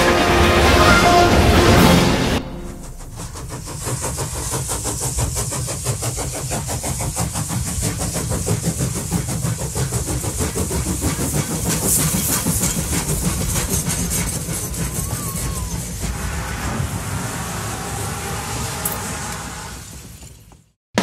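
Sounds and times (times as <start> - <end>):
steam locomotive chuffing: 0.0 - 20.7
steam hissing: 2.2 - 20.6.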